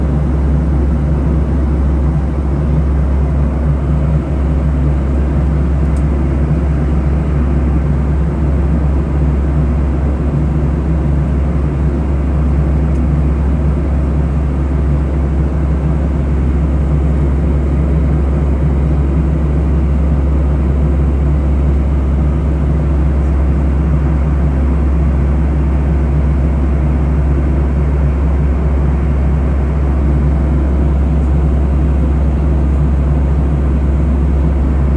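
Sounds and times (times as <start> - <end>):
airplane cabin engine drone: 0.0 - 34.9.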